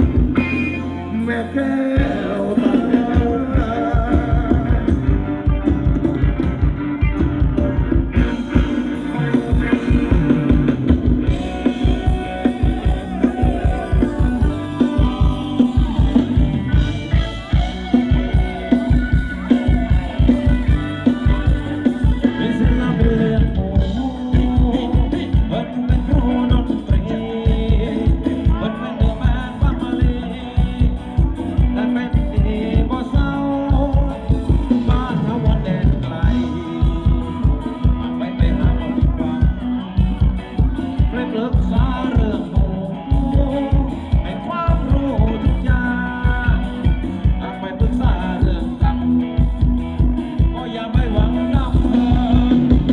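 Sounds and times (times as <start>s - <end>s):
driving drum beat: 0.0s - 52.9s
live band playing dance music: 0.0s - 52.9s
person singing: 0.0s - 52.9s.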